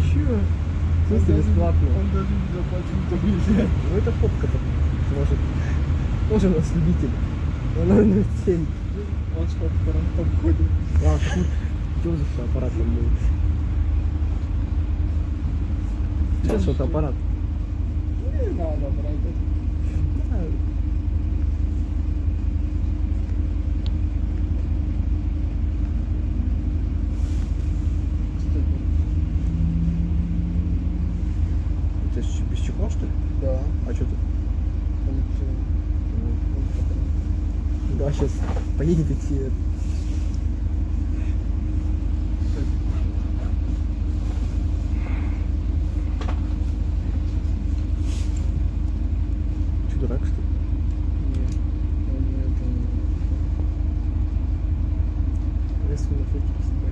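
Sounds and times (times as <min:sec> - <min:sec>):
bus engine droning: 0:00.0 - 0:56.9.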